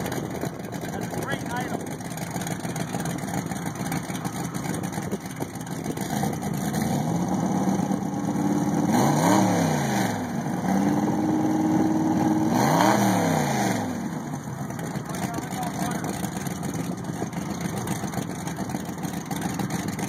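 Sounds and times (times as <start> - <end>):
boat engine idling and revving: 0.0 - 20.0.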